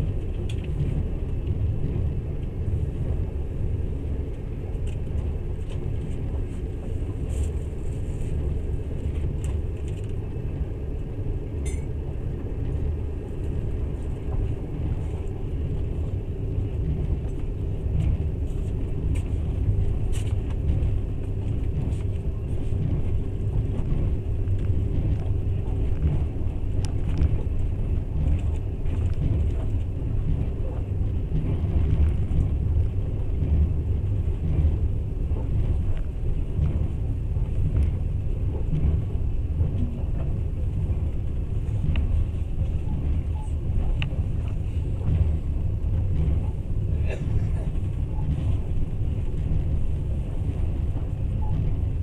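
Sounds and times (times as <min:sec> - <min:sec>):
passenger train rumble: 0:00.0 - 0:52.0.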